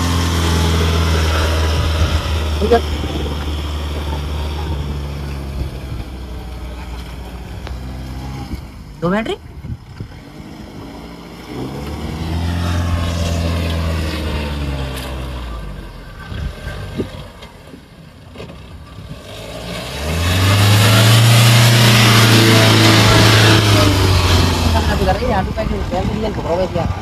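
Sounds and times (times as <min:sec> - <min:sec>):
engine revving under load: 0:00.0 - 0:27.0.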